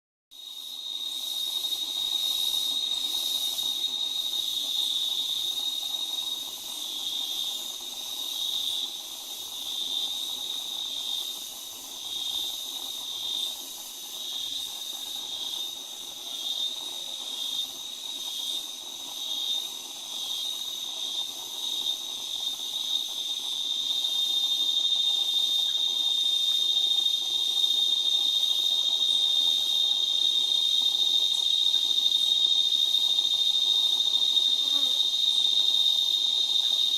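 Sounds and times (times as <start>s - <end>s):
insects droning: 0.3s - 36.9s.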